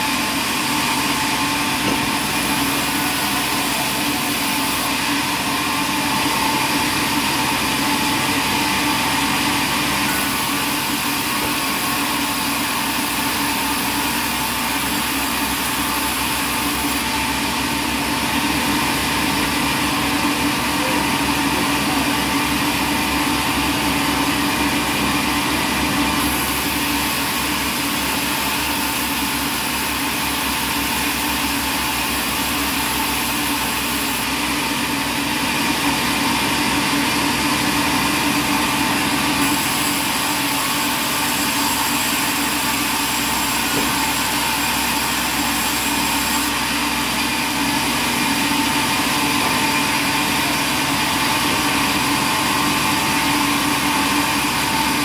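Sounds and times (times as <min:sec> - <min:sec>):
band saw cutting timber: 0:00.0 - 0:55.0.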